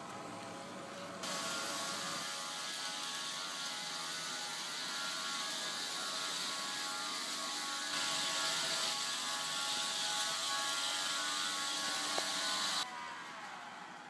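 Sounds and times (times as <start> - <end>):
model train motor whirring: 0.9 - 12.9.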